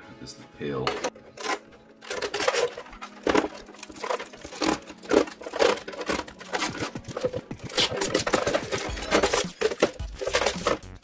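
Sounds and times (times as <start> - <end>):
plastic film peeling and crinkling: 2.0 - 11.0.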